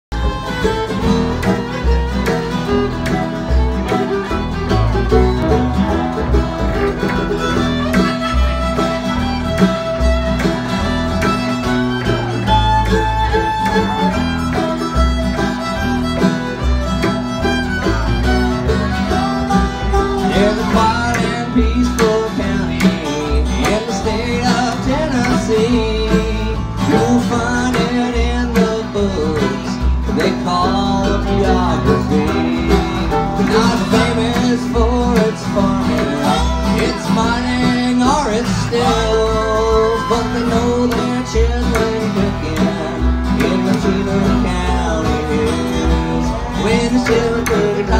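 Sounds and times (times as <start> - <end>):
acoustic guitar: 0.0 - 47.9
upright bass: 0.0 - 47.9
bowed fiddle: 0.1 - 47.9
mandolin: 0.1 - 47.9.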